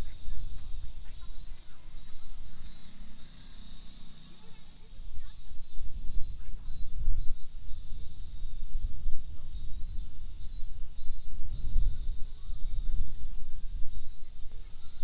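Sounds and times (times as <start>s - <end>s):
insect chirping call: 0.0s - 15.0s
insects shrill hiss: 0.0s - 15.0s.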